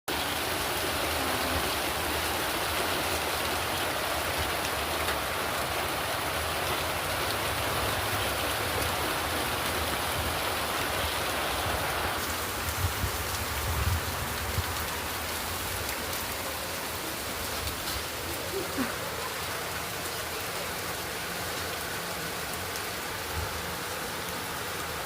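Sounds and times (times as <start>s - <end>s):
steady rain hiss: 0.1s - 25.0s.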